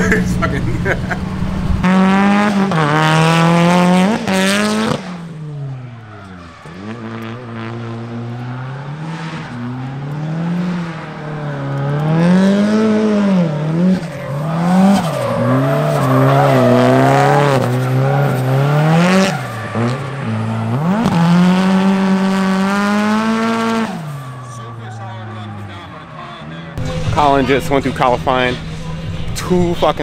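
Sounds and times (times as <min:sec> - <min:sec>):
car engine revving hard: 0:00.0 - 0:30.0
tyres squealing: 0:05.4 - 0:30.0.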